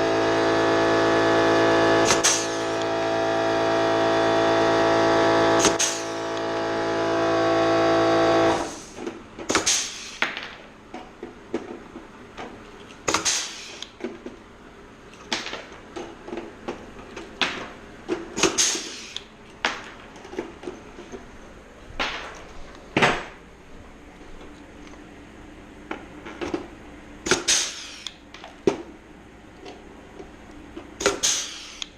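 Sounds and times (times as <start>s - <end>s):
steady machine hum: 0.0s - 9.5s, 10.6s - 31.2s.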